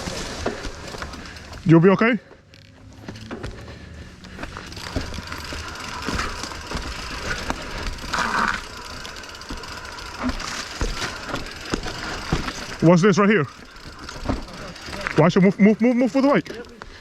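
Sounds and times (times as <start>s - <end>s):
bike tyres rumbling over rock: 0.0s - 1.8s, 3.1s - 17.0s
bike knocking and rattling: 0.0s - 17.0s.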